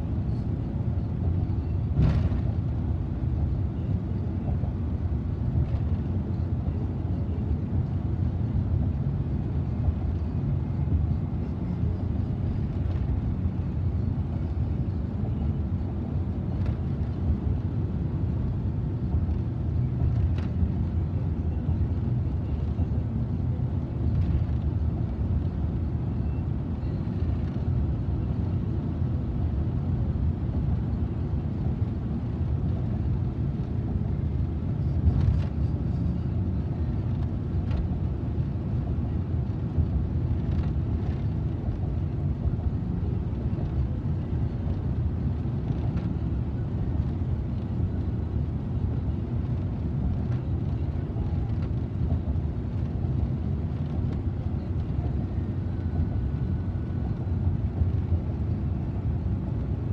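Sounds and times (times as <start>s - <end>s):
tyre and engine rumble in car: 0.0s - 59.9s.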